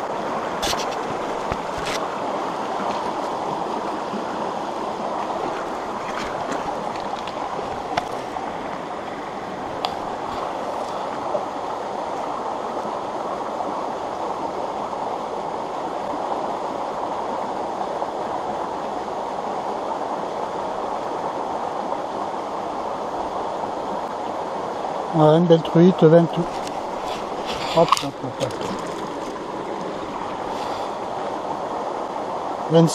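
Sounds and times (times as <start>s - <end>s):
stream rushing over rocks: 0.0s - 32.9s.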